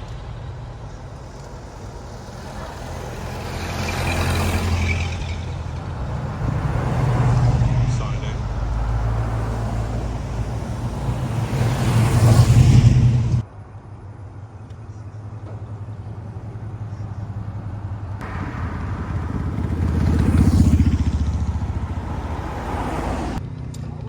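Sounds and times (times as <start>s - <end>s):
cars driving past: 0.0s - 13.5s, 15.3s - 23.5s.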